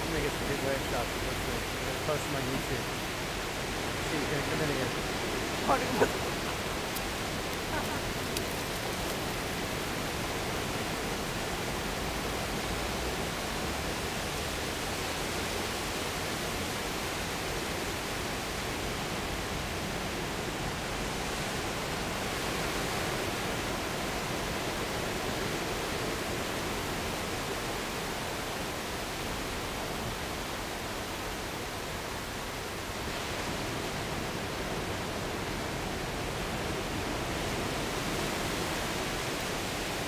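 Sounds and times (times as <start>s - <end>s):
waves breaking on beach: 0.0s - 40.0s.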